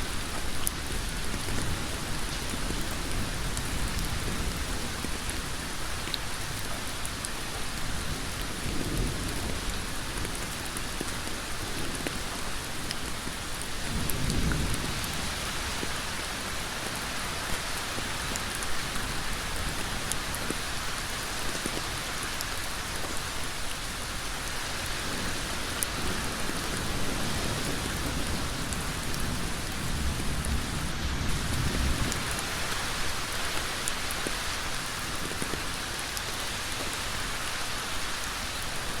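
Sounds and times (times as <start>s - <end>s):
heavy rain on a road: 0.0s - 39.0s.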